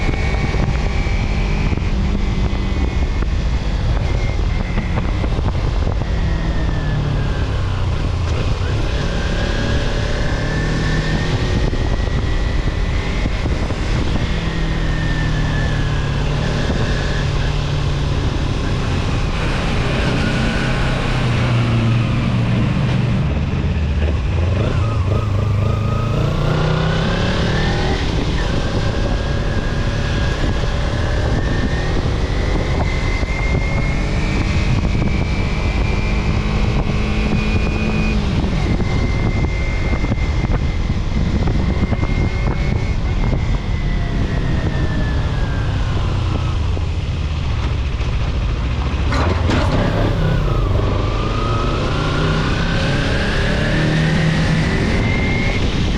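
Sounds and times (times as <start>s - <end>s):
low road rumble: 0.0s - 55.9s.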